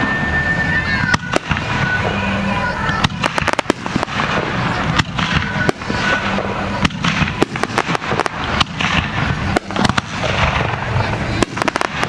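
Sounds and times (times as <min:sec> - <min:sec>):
continuous rumble: 0:00.0 - 0:12.0
fireworks bangs and crackling: 0:00.0 - 0:12.0.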